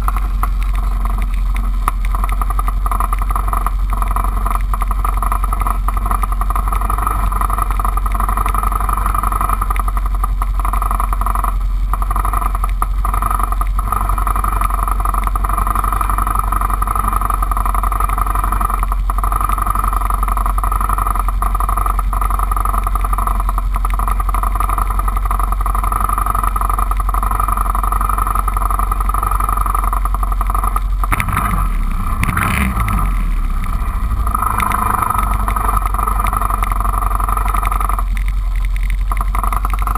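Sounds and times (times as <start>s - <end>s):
atv engine idling: 0.0s - 39.9s.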